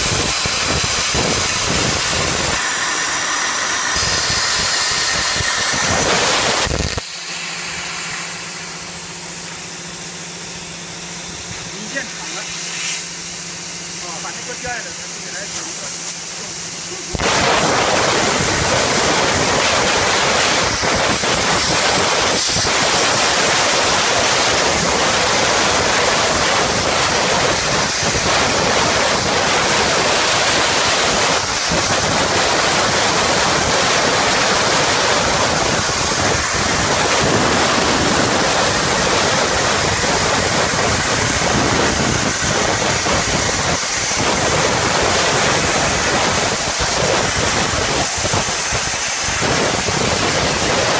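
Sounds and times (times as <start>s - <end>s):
plasma cutter hissing: 0.0s - 50.9s.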